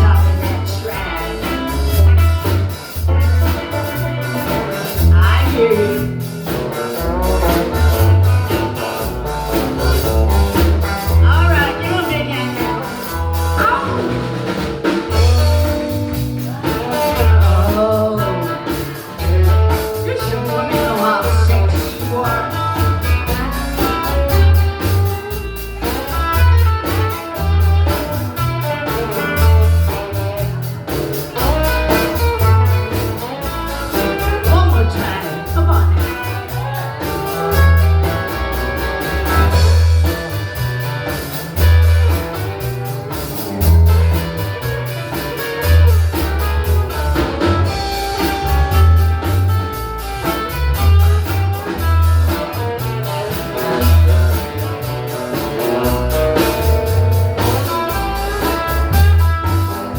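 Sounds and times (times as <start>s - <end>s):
guitar: 0.0s - 59.9s
live blues band playing: 0.0s - 59.9s.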